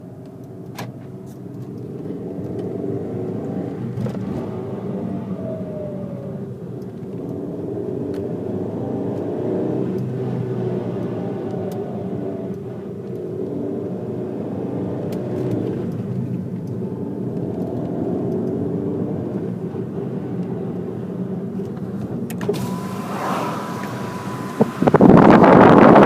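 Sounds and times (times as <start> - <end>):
car engine with grinding drone: 0.0 - 26.0.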